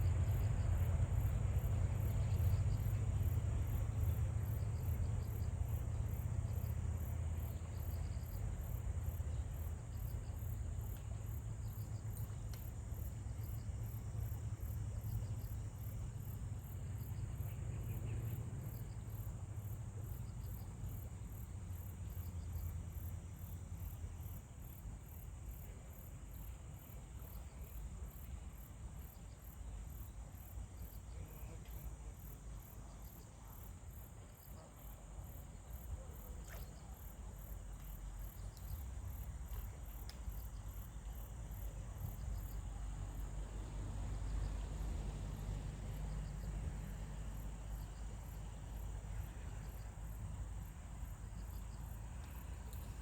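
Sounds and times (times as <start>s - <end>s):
lower insect chirping: 0.0s - 53.0s.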